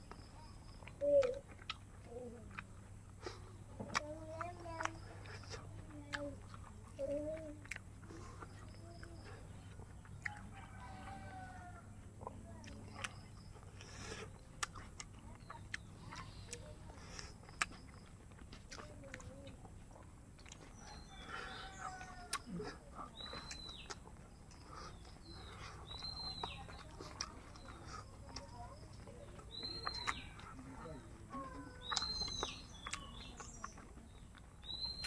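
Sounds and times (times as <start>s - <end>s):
small bird chirping: 0.0s - 2.7s, 3.9s - 11.8s, 12.5s - 35.0s
eating clicks and mouth smacks: 0.0s - 11.2s, 12.1s - 35.0s.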